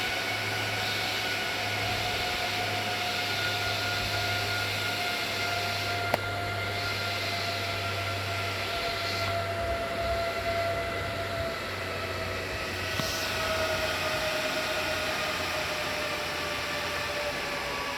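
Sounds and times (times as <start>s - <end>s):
server cooling fans whirring: 0.0s - 17.9s.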